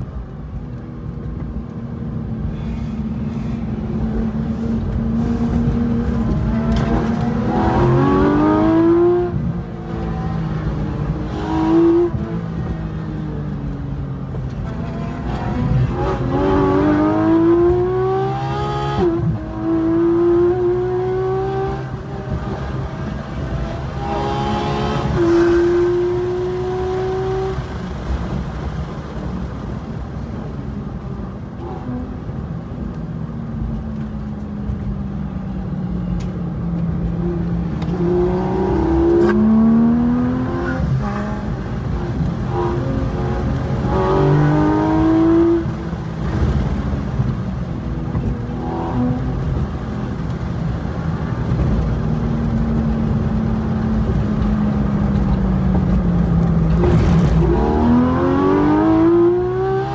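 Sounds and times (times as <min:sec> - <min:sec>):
race car engine from inside: 0:00.0 - 0:59.9.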